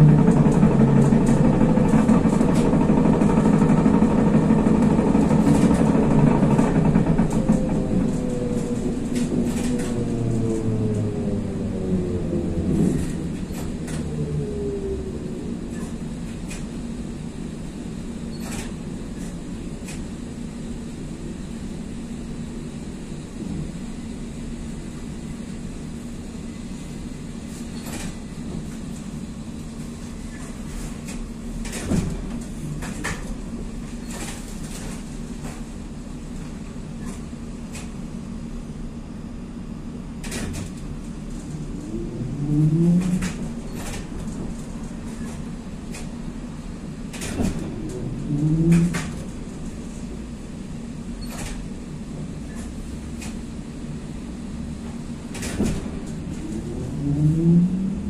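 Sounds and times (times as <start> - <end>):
trolleybus cabin hum: 0.0 - 58.0.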